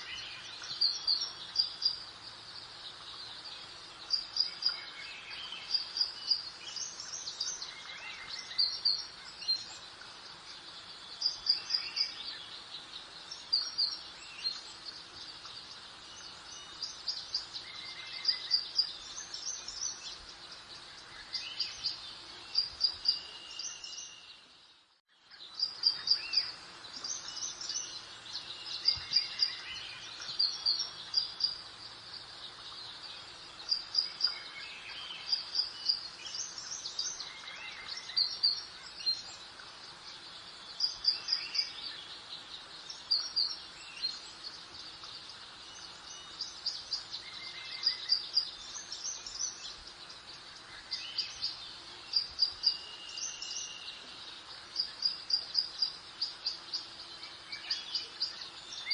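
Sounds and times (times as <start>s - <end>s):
garden birds chirping: 0.0s - 58.9s
soft background hiss: 0.0s - 58.9s.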